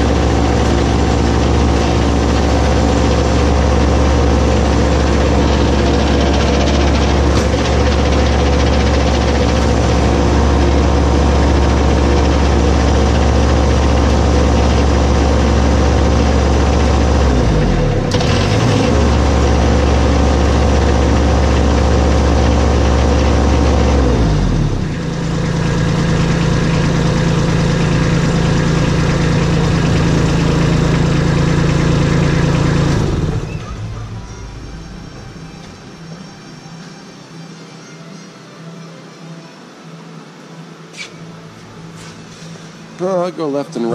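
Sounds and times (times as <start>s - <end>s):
tractor engine running: 0.0s - 36.4s.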